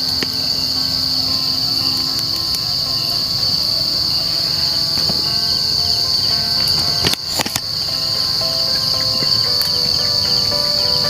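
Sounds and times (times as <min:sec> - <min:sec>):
night insects buzzing: 0:00.0 - 0:11.0.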